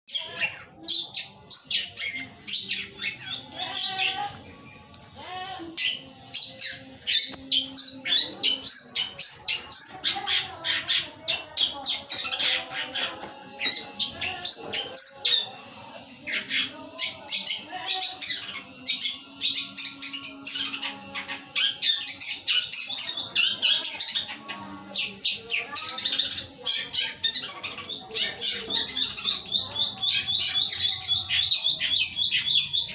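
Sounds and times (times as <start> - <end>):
shrike singing squawks and chirps: 5.7 - 32.9.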